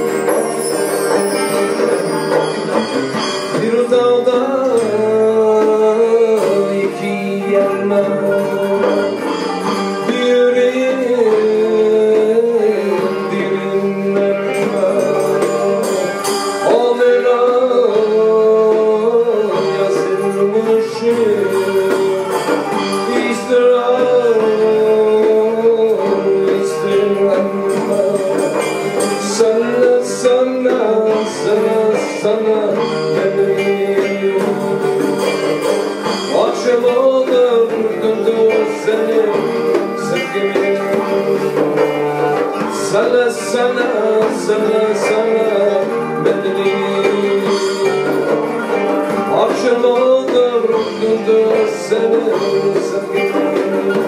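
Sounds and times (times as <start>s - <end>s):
oud melody: 0.0s - 54.0s.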